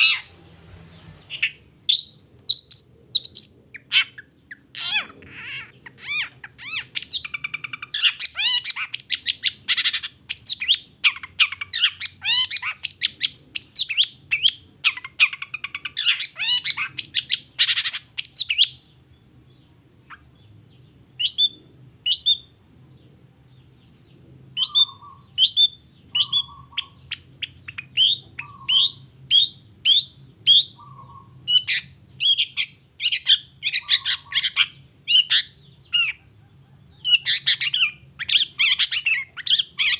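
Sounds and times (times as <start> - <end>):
bird sharp calls: 0.0 - 18.9, 24.6 - 39.9.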